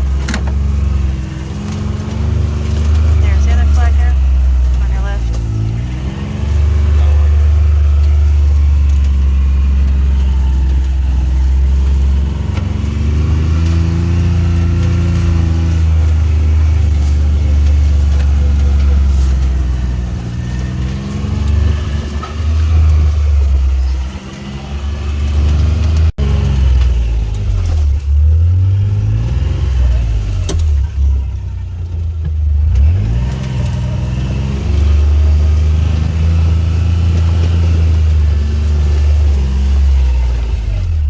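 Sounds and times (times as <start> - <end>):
utility vehicle engine driving: 0.0 - 41.0.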